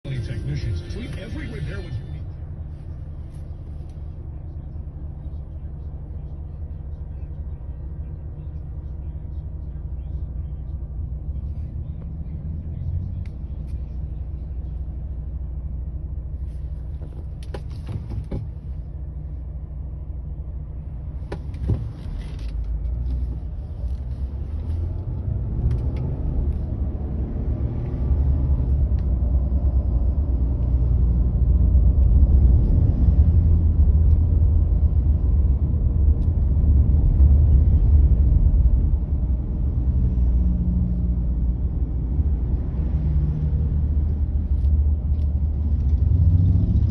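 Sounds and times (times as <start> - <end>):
car driving rumble: 0.0 - 46.9.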